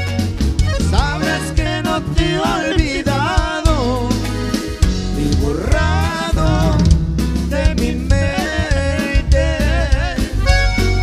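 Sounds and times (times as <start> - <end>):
bass and guitar: 0.0 - 11.0
drum kit beat: 0.0 - 11.0
wavering melodic lead line: 0.0 - 11.0.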